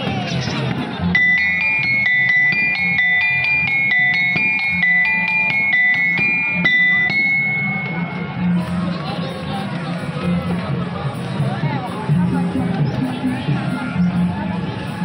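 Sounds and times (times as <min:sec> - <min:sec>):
tinkling bell-like melody: 0:01.0 - 0:15.0.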